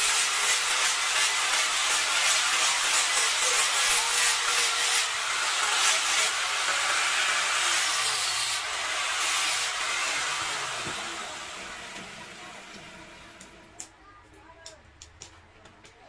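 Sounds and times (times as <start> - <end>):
angle grinder sanding wood: 0.0 - 13.8.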